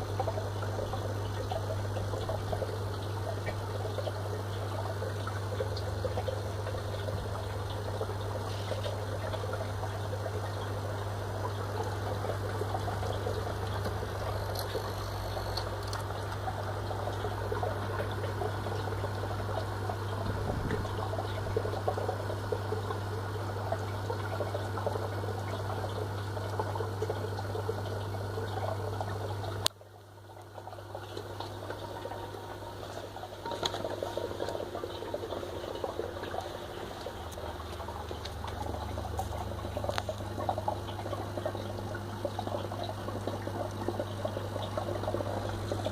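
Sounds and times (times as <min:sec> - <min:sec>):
canister filter electrical buzz: 0:00.0 - 0:45.9
water trickling: 0:00.0 - 0:45.9.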